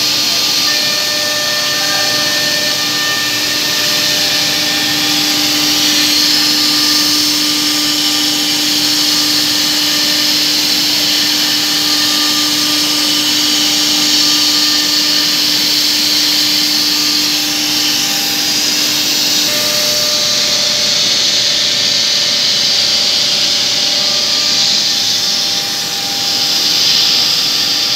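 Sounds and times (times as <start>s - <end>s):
boring machine hiss: 0.0s - 27.9s
whining drill tones: 0.0s - 27.9s
higher machine tone: 0.2s - 27.9s.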